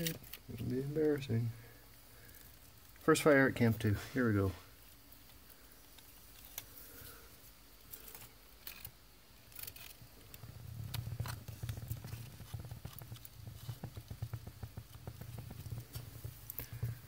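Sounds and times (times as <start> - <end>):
fire crackling and popping: 0.0 - 17.0
low rumble of fire: 0.0 - 17.0.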